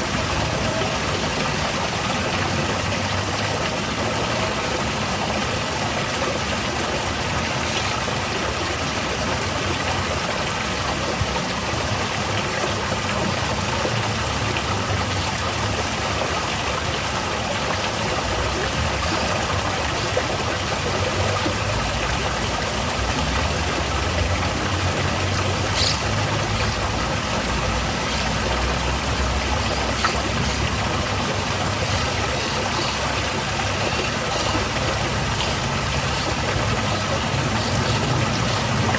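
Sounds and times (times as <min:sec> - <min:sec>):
waterfall pouring: 0:00.0 - 0:38.9.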